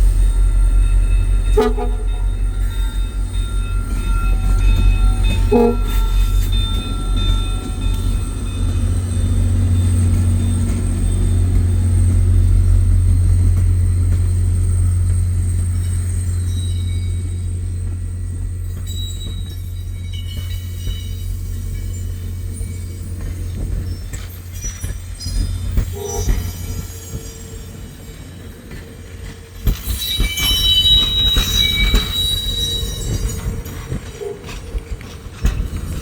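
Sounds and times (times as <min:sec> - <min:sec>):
diesel train rumbling past: 0:00.0 - 0:36.0.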